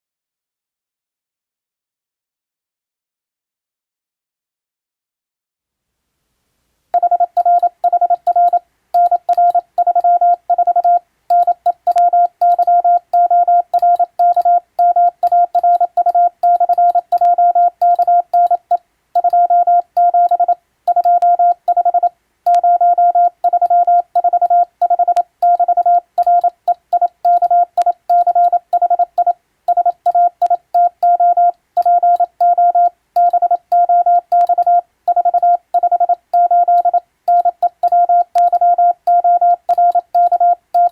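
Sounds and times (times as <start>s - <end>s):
morse code tone: 7.0s - 40.9s.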